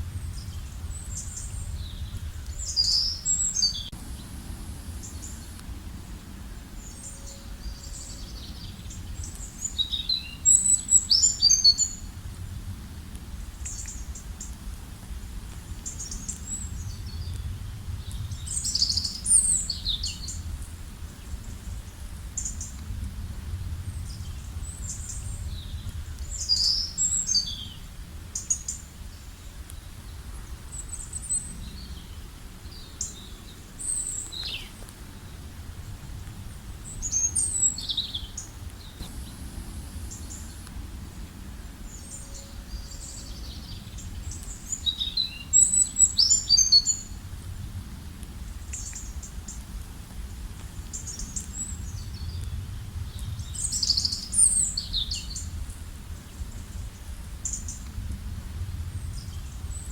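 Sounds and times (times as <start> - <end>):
songbirds chirping and trilling: 0.0 - 12.6, 15.6 - 23.0, 23.6 - 47.3, 48.2 - 59.9
low background rumble: 0.0 - 59.9.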